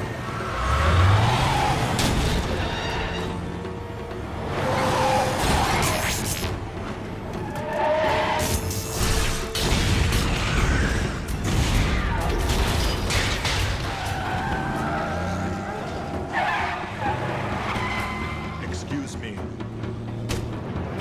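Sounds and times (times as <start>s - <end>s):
tyres skidding: 0.0s - 9.6s, 10.5s - 21.0s
film music score: 0.0s - 21.0s
heavy truck engines: 0.0s - 21.0s.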